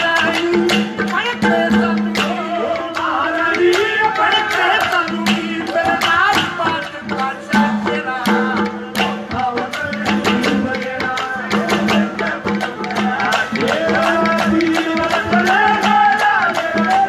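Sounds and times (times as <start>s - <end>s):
dholak drum beat: 0.0s - 17.0s
man singing: 0.0s - 17.0s.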